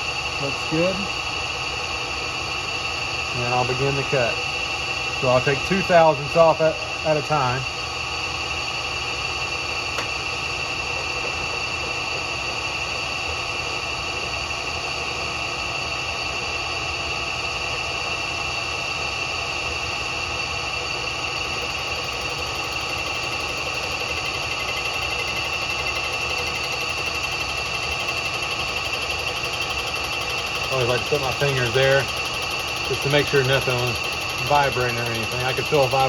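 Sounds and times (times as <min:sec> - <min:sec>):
milling machine whining: 0:00.0 - 0:36.0.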